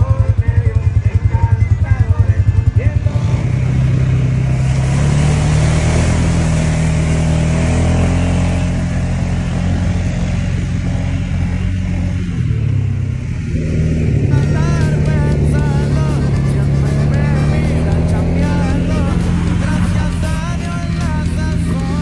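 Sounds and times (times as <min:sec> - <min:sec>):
vehicle engine running: 0:00.0 - 0:22.0
wind and tyre noise: 0:00.0 - 0:22.0.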